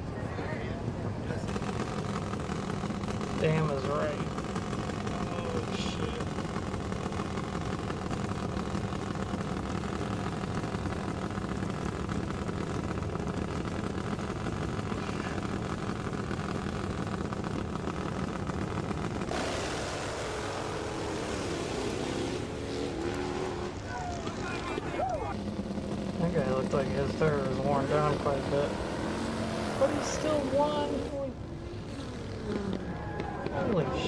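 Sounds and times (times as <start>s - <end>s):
dirt drag motorcycle engine: 0.0s - 34.0s.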